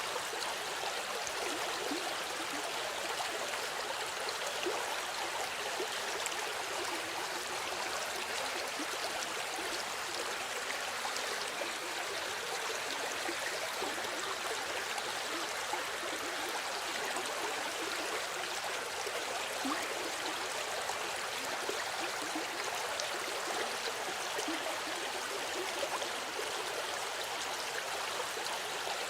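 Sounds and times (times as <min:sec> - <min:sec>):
stream of water flowing: 0:00.0 - 0:29.0.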